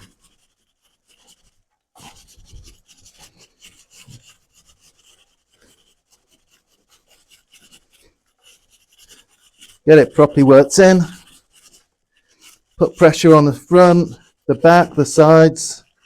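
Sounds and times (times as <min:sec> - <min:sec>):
brush scrubbing a chain: 0:00.0 - 0:16.0.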